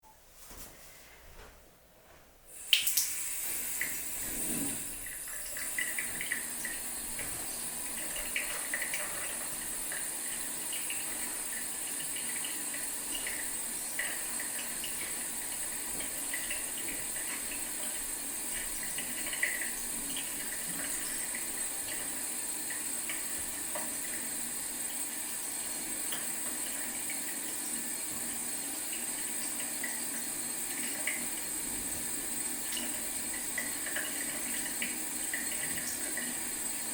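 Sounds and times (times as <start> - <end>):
faucet water splashing into sink: 2.6 - 36.9.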